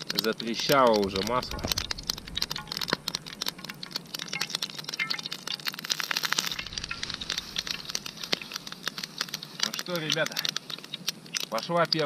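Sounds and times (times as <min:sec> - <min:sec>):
hot oil crackling in a pan: 0:00.0 - 0:12.0.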